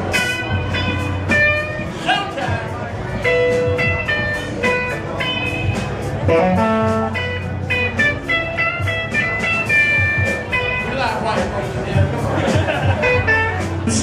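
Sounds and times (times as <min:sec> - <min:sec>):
blues guitar plucked notes: 0:00.0 - 0:14.0.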